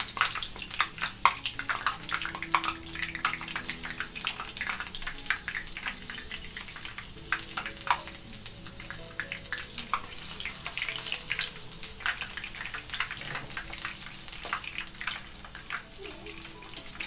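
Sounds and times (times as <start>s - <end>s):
shrimp frying in hot oil: 0.0s - 17.0s.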